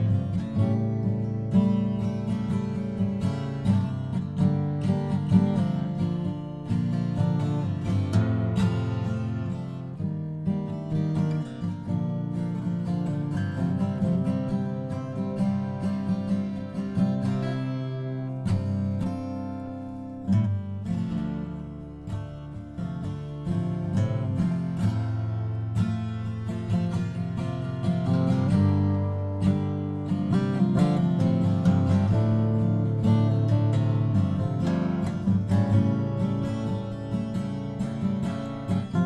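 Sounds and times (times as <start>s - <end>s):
twelve-string acoustic guitar strumming: 0.0s - 39.0s.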